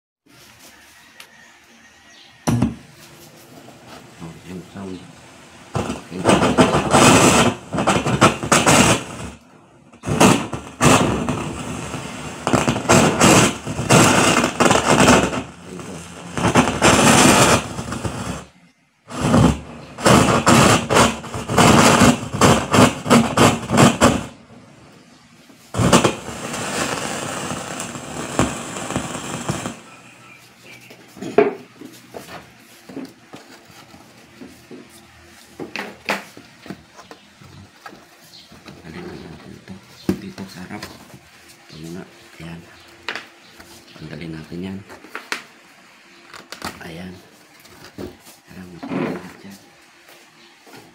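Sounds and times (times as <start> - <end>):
crackling static from speaker: 2.9 - 50.8.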